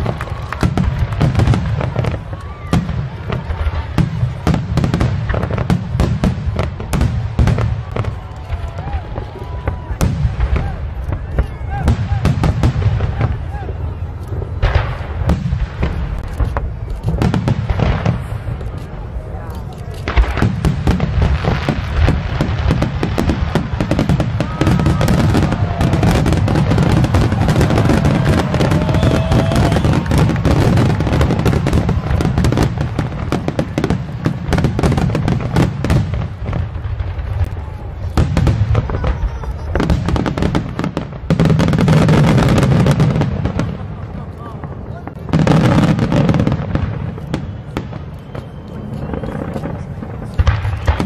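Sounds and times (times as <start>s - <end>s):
firework crackling: 0.0s - 51.0s.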